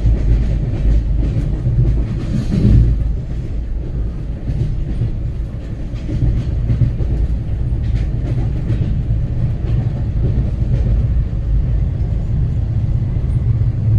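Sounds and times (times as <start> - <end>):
train rumbling: 0.0 - 13.9
wheels clicking over rail joints: 0.0 - 13.9.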